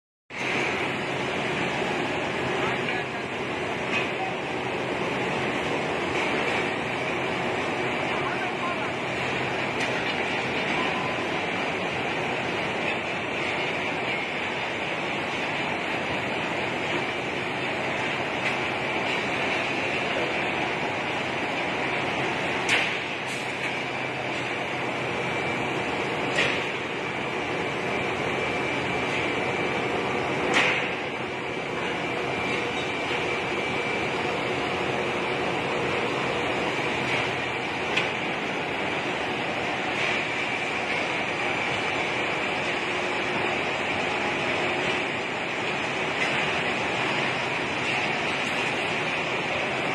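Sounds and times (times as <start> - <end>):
steady rolling mill machinery noise: 0.3 - 49.9.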